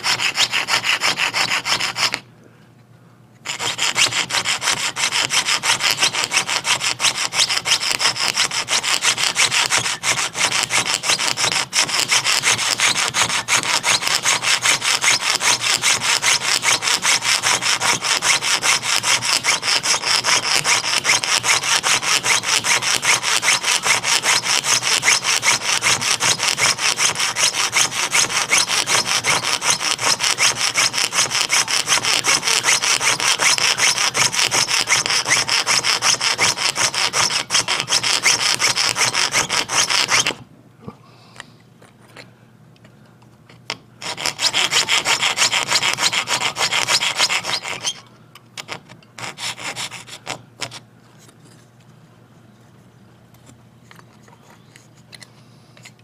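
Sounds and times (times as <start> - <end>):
fine hand saw cutting metal: 0.0 - 2.2, 3.4 - 40.4, 44.0 - 48.0, 48.6 - 50.8.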